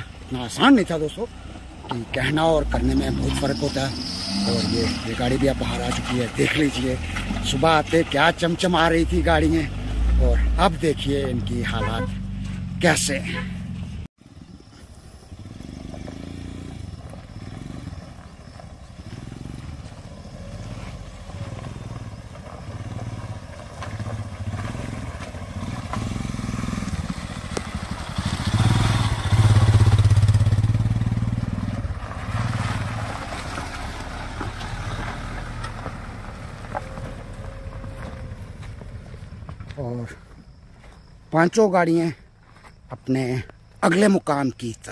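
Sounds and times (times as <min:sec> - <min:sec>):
suv engine passing: 0:00.0 - 0:40.8
motorcycle passing on dirt track: 0:00.0 - 0:41.3.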